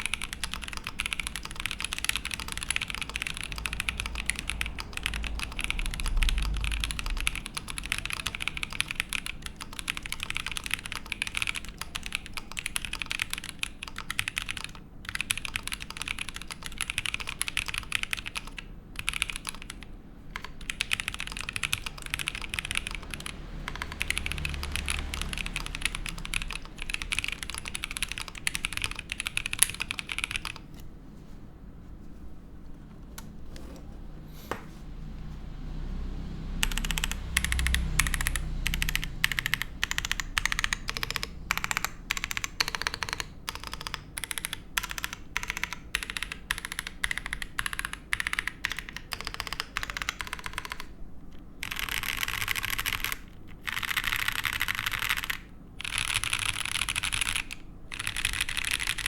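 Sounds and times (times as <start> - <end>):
mechanical keyboard typing: 0.0 - 30.9, 36.6 - 59.0.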